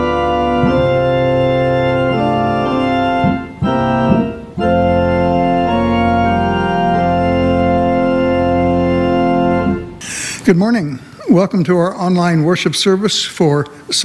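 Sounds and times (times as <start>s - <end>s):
organ playing sustained chords: 0.0s - 14.0s.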